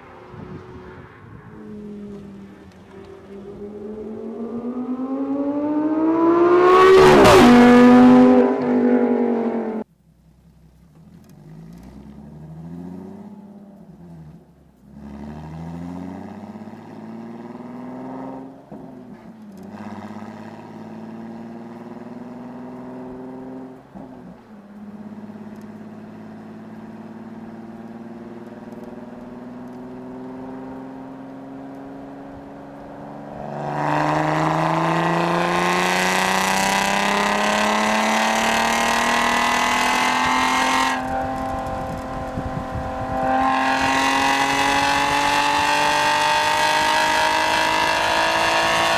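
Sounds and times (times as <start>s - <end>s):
car engine revving through exhaust: 0.0s - 9.9s, 11.0s - 48.9s.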